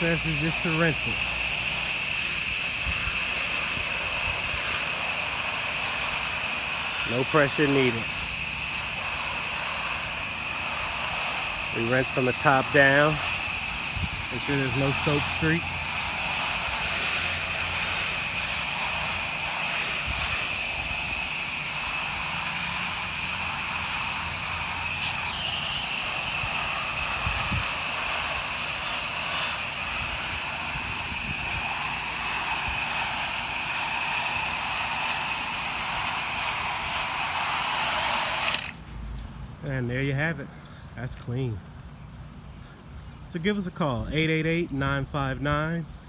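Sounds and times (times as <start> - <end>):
pressure washer spray hissing: 0.0 - 38.8.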